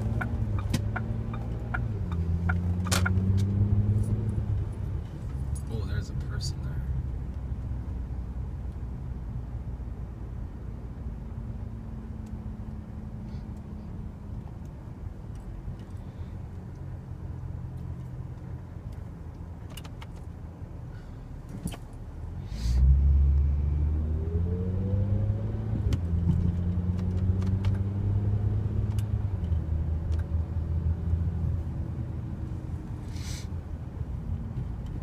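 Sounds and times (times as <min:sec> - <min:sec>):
car engine from inside cabin: 0:00.0 - 0:35.0.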